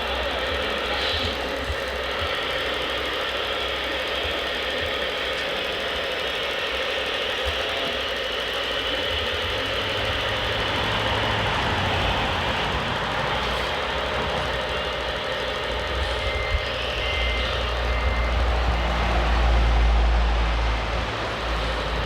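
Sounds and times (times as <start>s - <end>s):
model machine motor whine: 0.0s - 22.0s.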